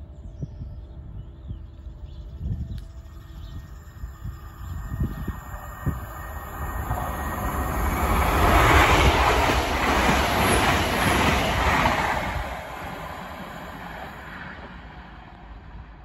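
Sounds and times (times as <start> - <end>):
high-speed train passing: 0.0 - 16.0.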